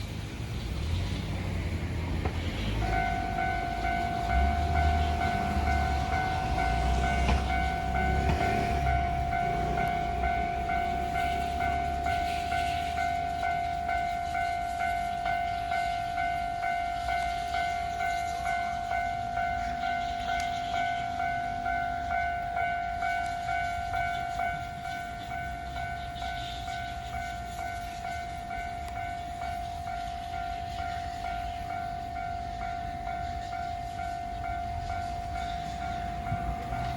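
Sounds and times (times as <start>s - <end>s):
level crossing warning bell: 0.0s - 36.9s
low traffic rumble: 0.0s - 36.9s.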